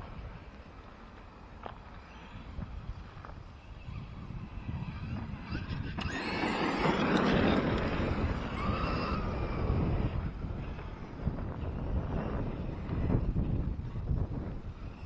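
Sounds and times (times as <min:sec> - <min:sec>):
electric rc truck motor whine: 0:00.0 - 0:15.0
wind rumble on microphone: 0:00.0 - 0:15.0.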